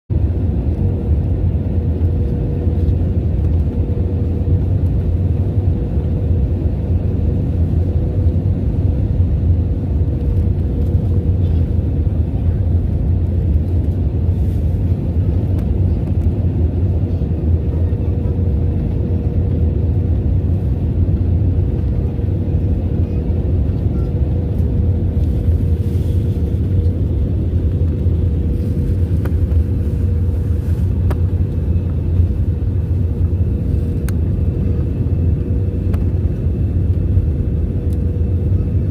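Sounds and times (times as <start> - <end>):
airliner cabin engine rumble: 0.1 - 38.9
constant hum: 0.1 - 38.9.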